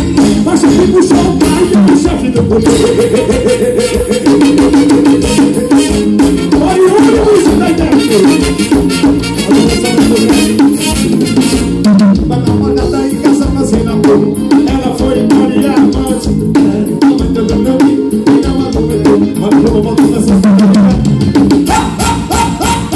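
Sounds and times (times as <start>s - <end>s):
loud music from car speakers: 0.0s - 22.9s.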